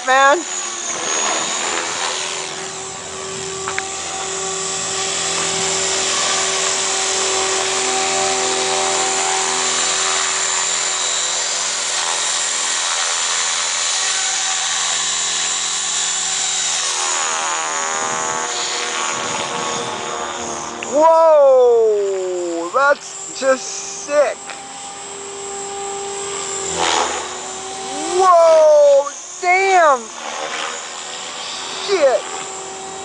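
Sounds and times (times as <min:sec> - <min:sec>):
rc helicopter motor whine: 0:00.0 - 0:33.0
rotor buzz: 0:00.0 - 0:33.0.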